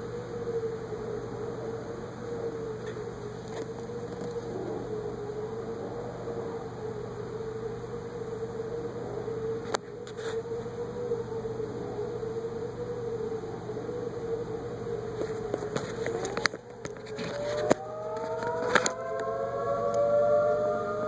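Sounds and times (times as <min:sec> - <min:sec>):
warning siren steady tone: 0:00.0 - 0:21.0.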